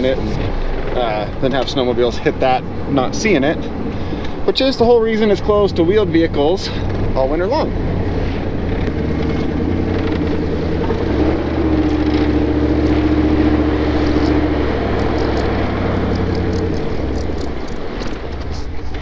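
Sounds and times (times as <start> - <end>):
drivetrain whine: 0.0 - 19.0
vehicle engine under load: 0.0 - 19.0.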